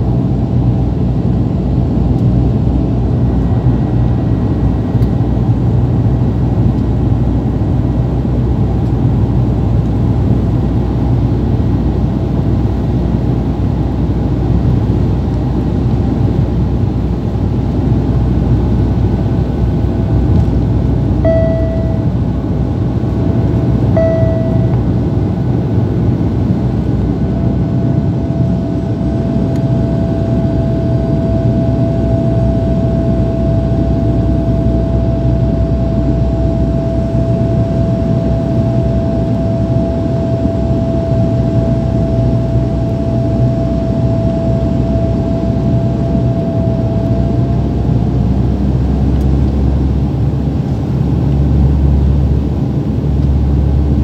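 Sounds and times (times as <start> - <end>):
propeller engines droning: 0.0 - 54.0
whine: 0.0 - 54.0.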